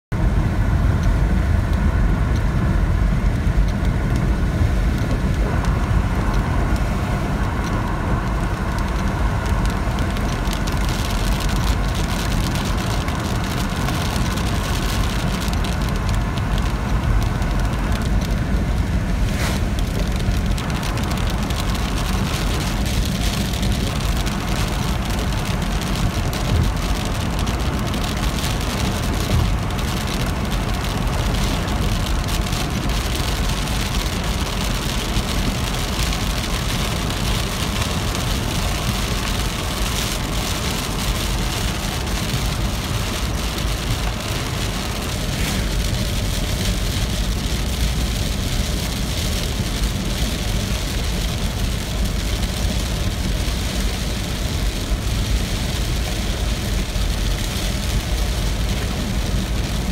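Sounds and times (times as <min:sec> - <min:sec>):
low rumble: 0:00.1 - 0:59.9
steady rain: 0:00.1 - 0:59.9.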